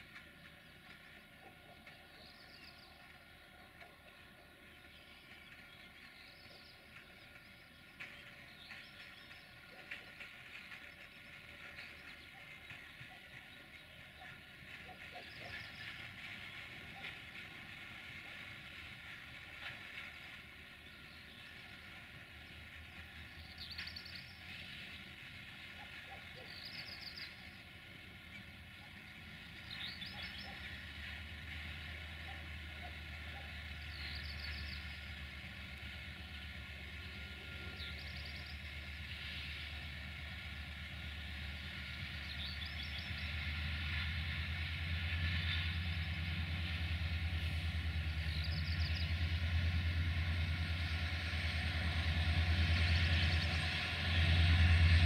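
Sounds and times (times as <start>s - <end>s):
locomotive rumble: 0.0s - 55.0s.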